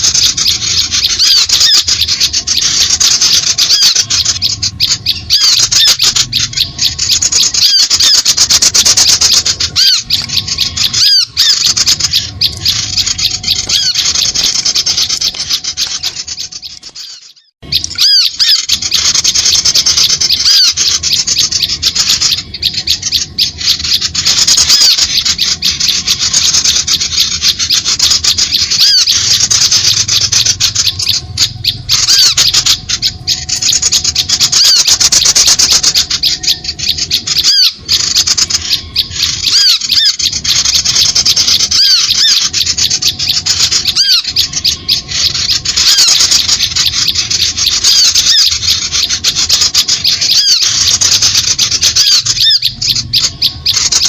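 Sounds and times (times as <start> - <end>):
small birds calling: 0.0 - 54.0.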